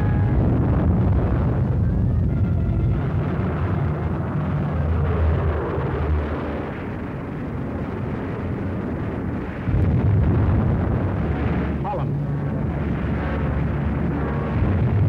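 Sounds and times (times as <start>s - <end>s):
explosions: 0.0s - 15.0s
rumble of armoured vehicles: 0.0s - 15.0s.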